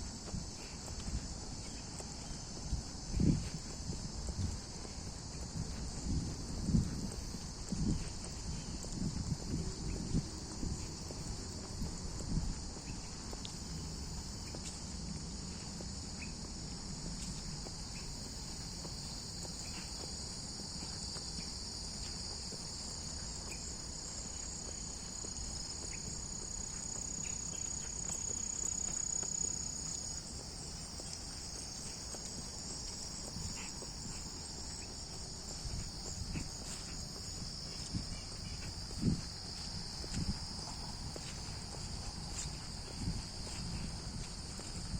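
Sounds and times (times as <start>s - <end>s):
insect chorus: 0.0s - 44.9s
soft footsteps on trail: 0.0s - 44.9s.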